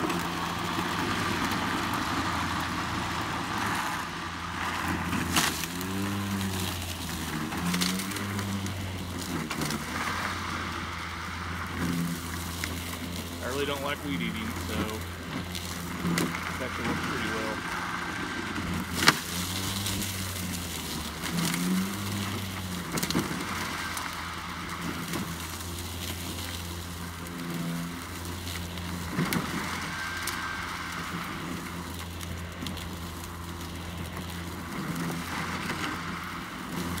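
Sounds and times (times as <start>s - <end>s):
blade cutting weeds crackling: 0.0s - 37.0s
lawn mower humming: 0.0s - 37.0s.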